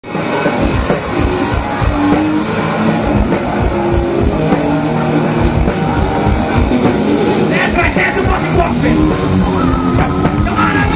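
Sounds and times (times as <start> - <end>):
distorted electric guitar: 0.0 - 10.9
drum kit beat: 0.0 - 10.9
rock band playing live: 0.0 - 10.9.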